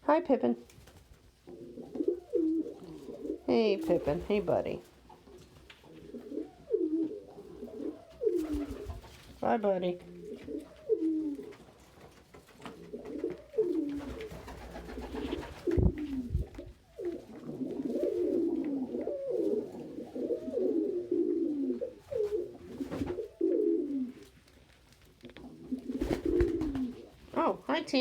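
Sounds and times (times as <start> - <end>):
pigeons cooing: 1.3 - 9.3, 10.0 - 24.3, 25.2 - 27.3.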